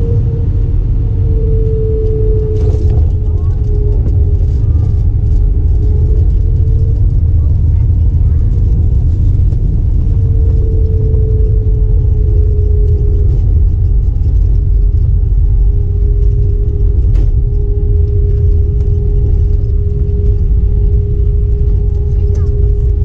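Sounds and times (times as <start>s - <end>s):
airplane cabin rumble: 0.0s - 23.0s
mid-pitched whine: 0.0s - 23.0s.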